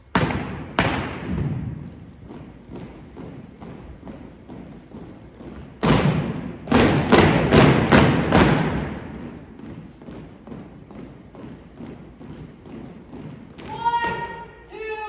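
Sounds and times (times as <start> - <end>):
unison stomps on wooden floor: 0.0 - 14.5
soft marching footfalls: 0.0 - 15.0.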